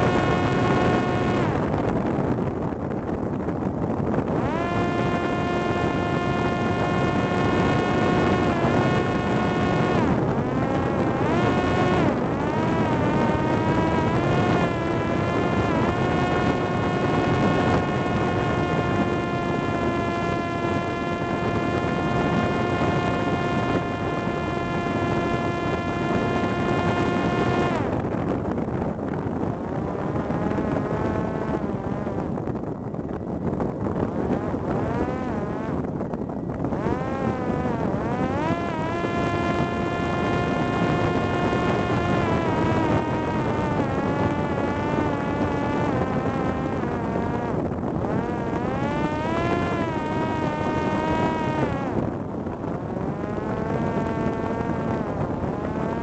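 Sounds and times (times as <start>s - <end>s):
drone motor and propeller whining: 0.0s - 56.0s
rushing wind: 0.0s - 56.0s.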